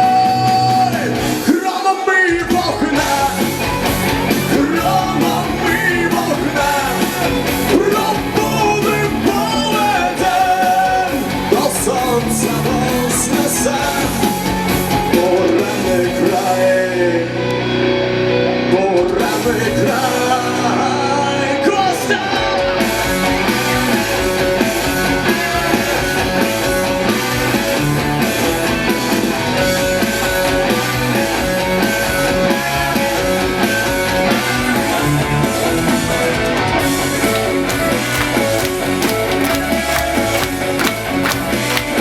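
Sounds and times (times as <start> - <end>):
live rock band playing: 2.6 - 42.0
lead guitar: 3.0 - 42.0.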